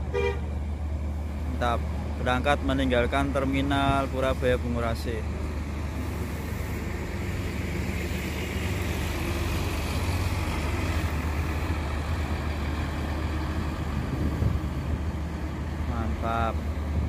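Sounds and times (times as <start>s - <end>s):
bus diesel engine passing: 0.0s - 17.0s.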